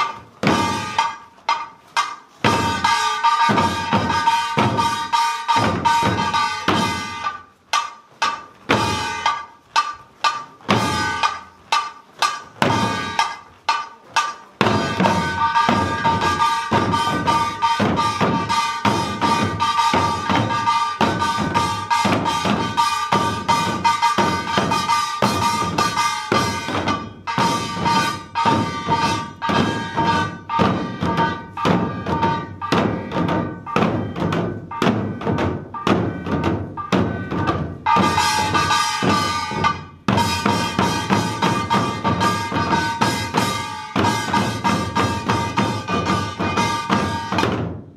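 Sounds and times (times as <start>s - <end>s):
barrel drums beaten: 0.0s - 47.9s.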